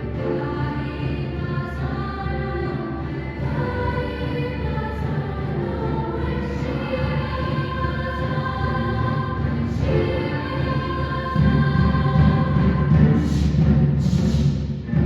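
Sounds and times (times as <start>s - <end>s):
choir singing slow chords: 0.0s - 13.7s.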